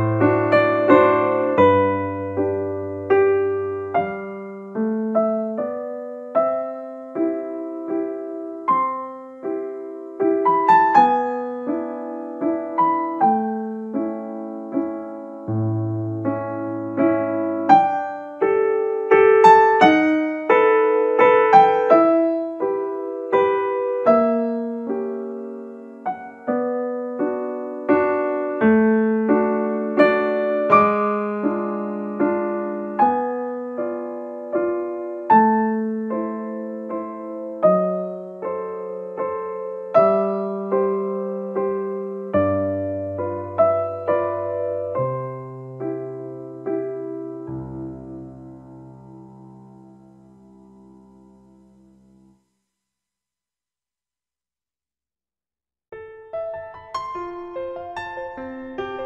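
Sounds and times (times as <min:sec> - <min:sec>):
piano music: 0:00.0 - 0:52.4, 0:55.9 - 0:59.0.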